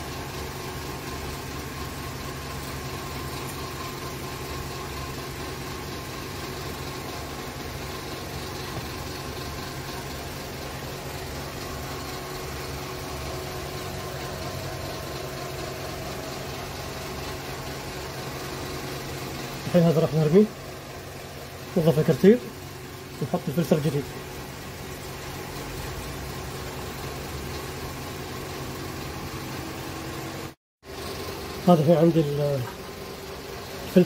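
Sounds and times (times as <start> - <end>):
engine humming steadily: 0.0 - 34.0.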